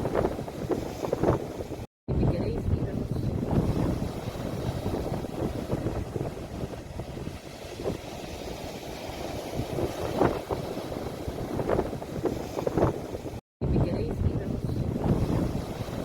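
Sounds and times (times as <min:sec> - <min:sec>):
sea waves washing at shore: 0:00.0 - 0:13.4, 0:14.0 - 0:16.0
wind buffeting microphone: 0:00.0 - 0:16.0.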